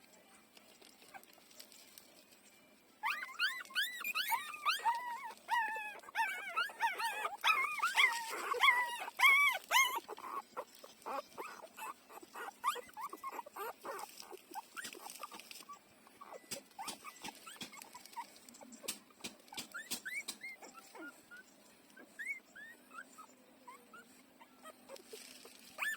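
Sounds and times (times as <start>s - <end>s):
puppies nursing clicks and smacks: 0.0s - 2.4s, 3.3s - 22.3s
faint puppy squeak: 3.0s - 25.9s
puppies squealing and whining: 3.0s - 25.9s.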